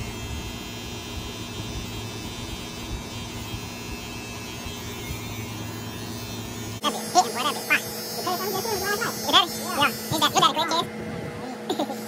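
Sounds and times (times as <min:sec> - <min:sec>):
electric hair trimmer buzzing: 0:00.0 - 0:12.0.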